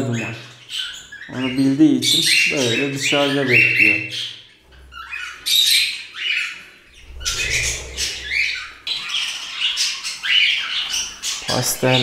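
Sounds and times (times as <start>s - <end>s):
parrots squawking and chirping: 0.0s - 12.0s.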